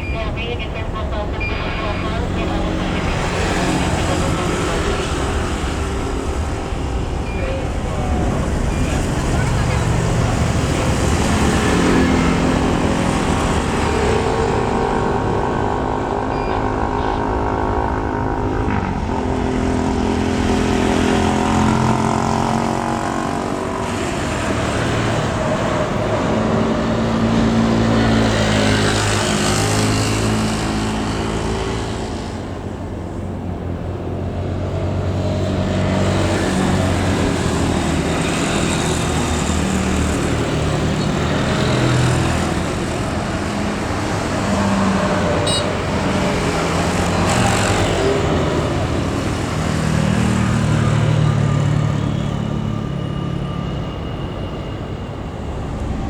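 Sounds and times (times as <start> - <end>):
motor engines passing: 0.0 - 56.0.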